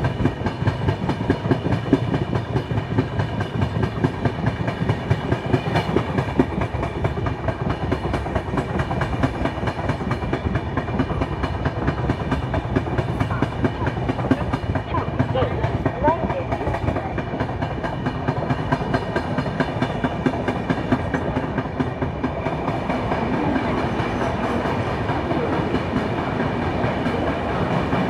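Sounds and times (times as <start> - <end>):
train rumble: 0.0 - 28.0
train wheels clicking over rails: 0.0 - 28.0.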